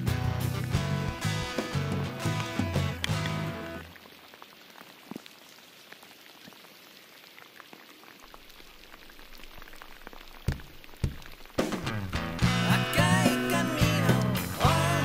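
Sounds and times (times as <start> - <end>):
rain hissing on water: 0.1 - 15.0
raindrops striking close by: 0.1 - 15.0.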